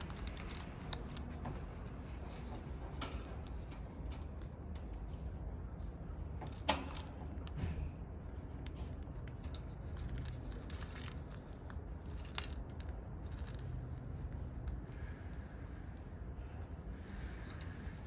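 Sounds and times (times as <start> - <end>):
birds clicking and scratching: 0.0 - 18.0.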